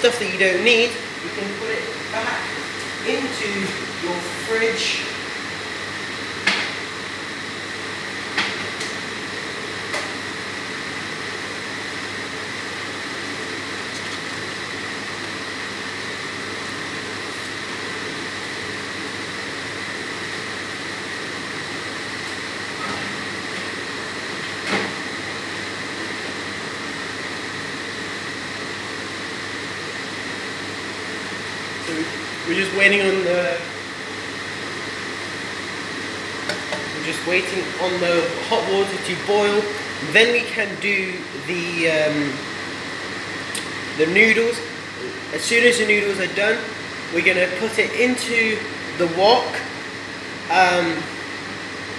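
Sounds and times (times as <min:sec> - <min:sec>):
kitchen appliance whirring hum: 0:00.0 - 0:51.9.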